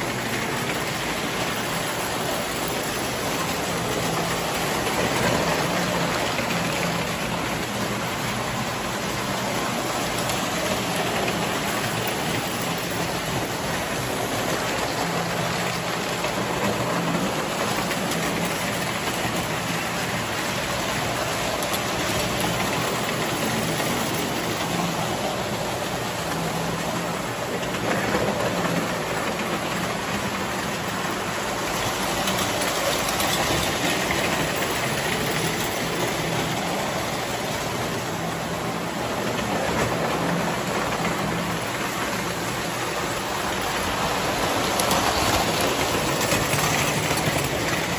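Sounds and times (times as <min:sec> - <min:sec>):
toy trains whirring on metal rails: 0:00.0 - 0:47.9.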